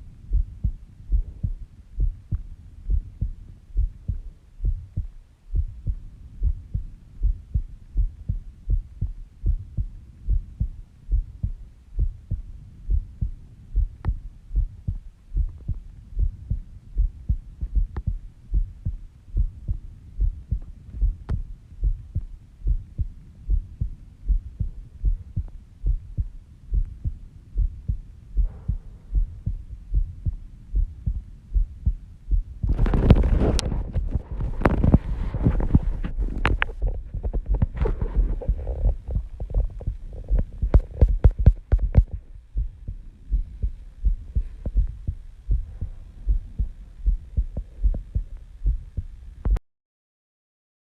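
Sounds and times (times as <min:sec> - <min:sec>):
heartbeat thumps: 0:00.0 - 0:49.6.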